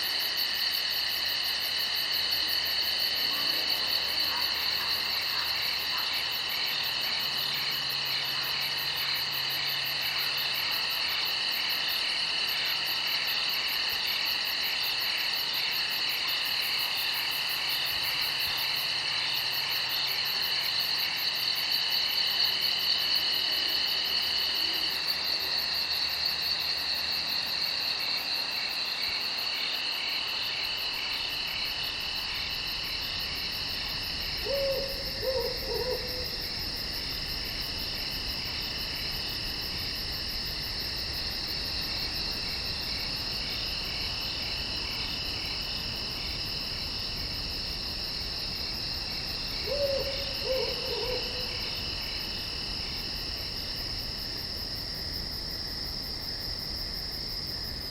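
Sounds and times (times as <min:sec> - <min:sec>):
crickets trilling: 0:00.0 - 0:57.9
high pulsing insect trill: 0:00.0 - 0:57.9.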